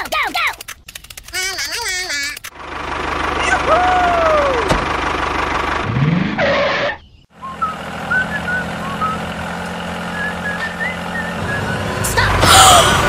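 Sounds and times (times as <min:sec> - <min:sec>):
tractor engine humming: 0:01.3 - 0:13.0.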